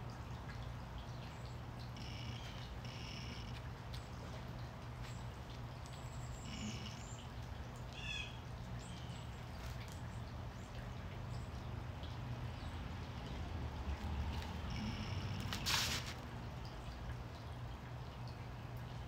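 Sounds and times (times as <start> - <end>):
low background hum: 0.0 - 19.0
birds chirping: 0.6 - 16.2.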